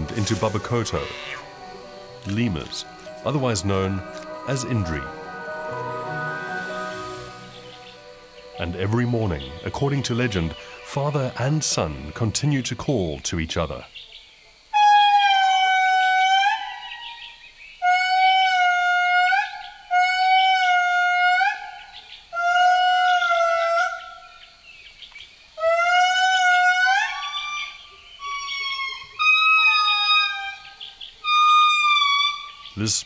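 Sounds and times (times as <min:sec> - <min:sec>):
lemur wailing song: 0:00.0 - 0:13.8, 0:14.7 - 0:24.4, 0:25.6 - 0:33.0.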